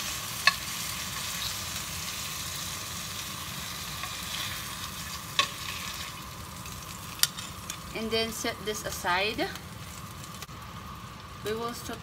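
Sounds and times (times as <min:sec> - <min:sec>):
oil sizzling in a skillet: 0:00.0 - 0:12.0.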